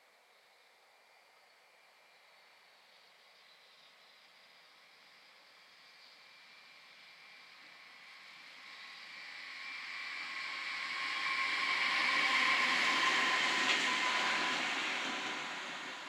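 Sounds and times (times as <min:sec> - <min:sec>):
electric locomotive high whine: 0:01.8 - 0:16.0.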